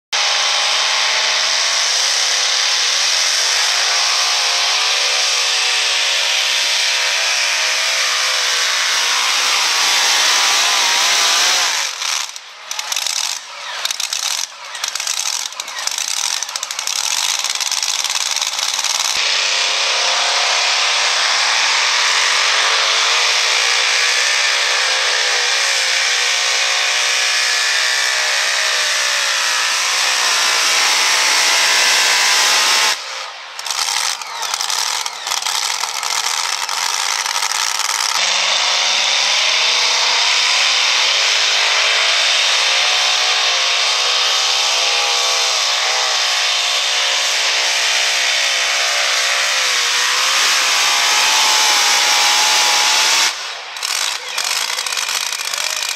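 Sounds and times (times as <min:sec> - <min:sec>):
truck engines revving hard: 0:00.0 - 0:55.9.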